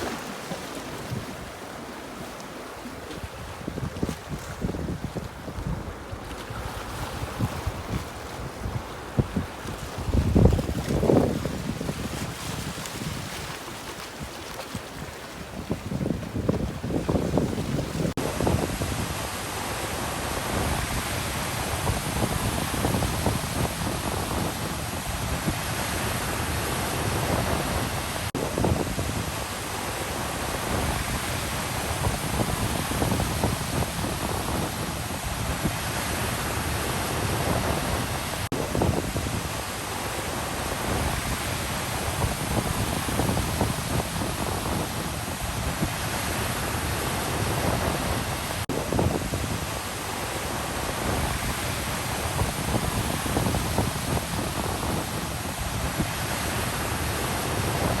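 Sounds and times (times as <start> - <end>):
wind buffeting microphone: 0.0 - 19.6, 20.3 - 29.6, 30.2 - 58.0
sea waves washing onto shore: 0.0 - 58.0.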